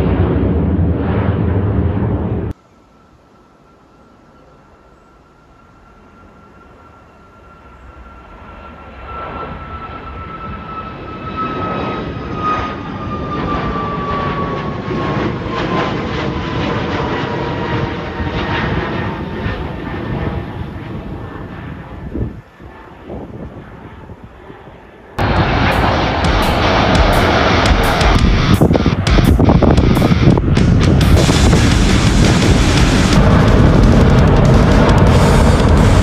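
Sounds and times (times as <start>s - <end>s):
high engine whine: 0.0s - 36.0s
jet engine roar: 0.0s - 36.0s.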